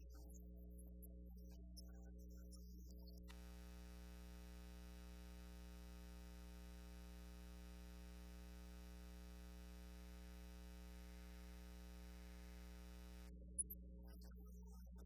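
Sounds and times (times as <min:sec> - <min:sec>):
faint electrical hum and buzz: 0:00.0 - 0:15.0.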